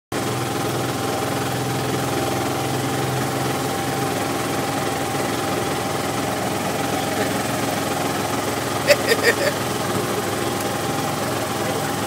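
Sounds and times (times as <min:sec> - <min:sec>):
engine running steadily: 0:00.1 - 0:12.0.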